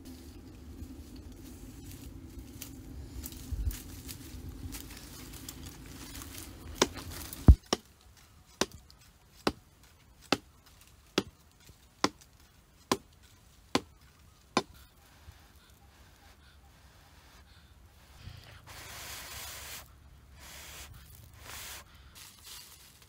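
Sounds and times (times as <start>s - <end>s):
rustling in undergrowth: 0.0s - 16.3s, 17.2s - 23.0s.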